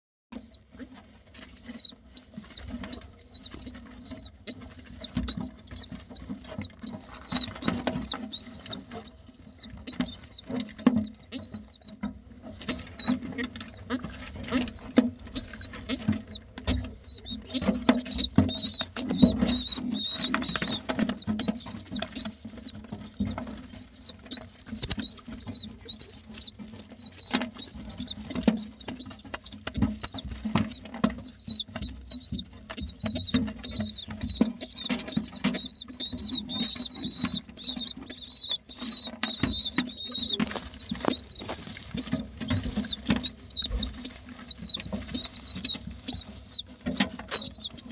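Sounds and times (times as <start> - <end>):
baby pigeons squeaking: 0.3 - 47.9
scuffling and small knocks: 0.4 - 47.9.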